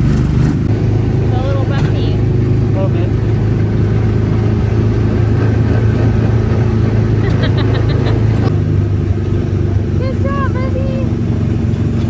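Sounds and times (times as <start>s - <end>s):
ride vehicle mechanical hum: 0.0s - 12.0s.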